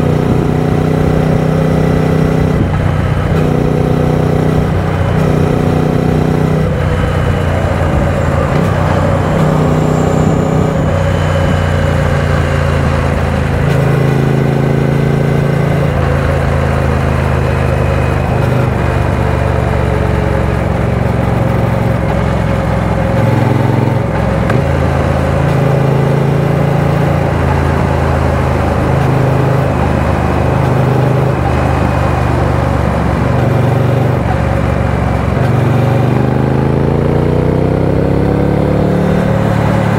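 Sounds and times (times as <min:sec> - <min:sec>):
motorcycle engine at highway speed: 0:00.0 - 0:39.9.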